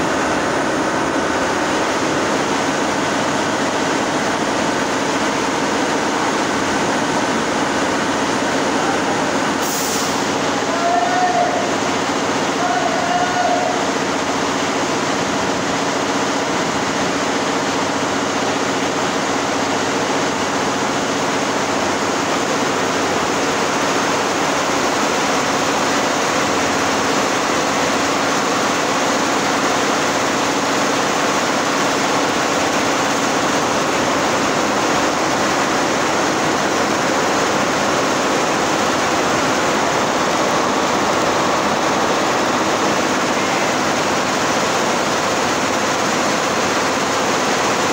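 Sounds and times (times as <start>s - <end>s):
embroidery machines running: 0.0s - 47.9s.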